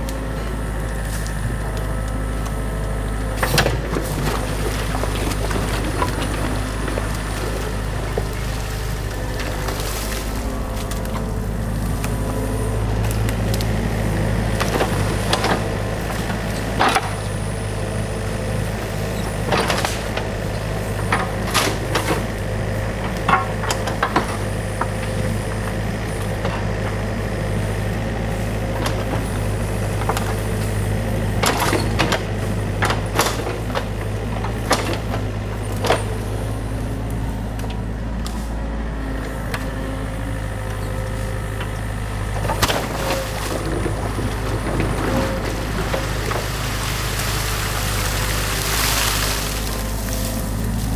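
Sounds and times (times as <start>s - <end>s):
diesel engine running: 0.0s - 50.9s
excavator knocks and clatter: 0.1s - 50.9s.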